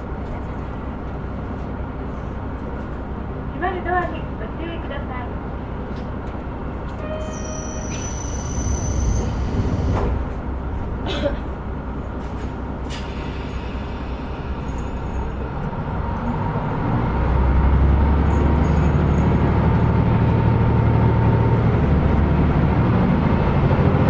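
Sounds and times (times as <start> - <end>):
diesel engine droning: 0.0 - 24.0
train rail noise: 0.0 - 24.0.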